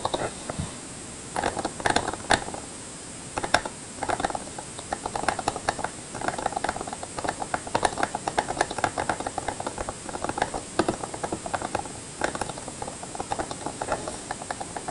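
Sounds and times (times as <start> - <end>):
keyboard typing clacks: 1.4 - 2.6, 3.4 - 14.9.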